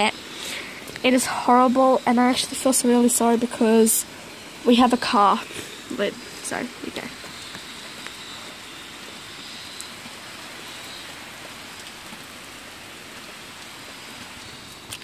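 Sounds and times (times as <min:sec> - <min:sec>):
steady rain on ground: 0:00.0 - 0:15.0.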